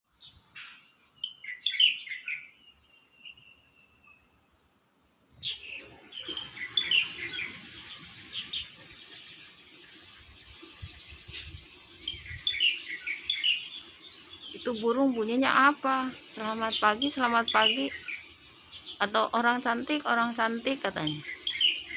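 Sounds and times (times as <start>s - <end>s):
songbird chirping: 0.1s - 21.9s
steady background hiss: 0.2s - 21.9s.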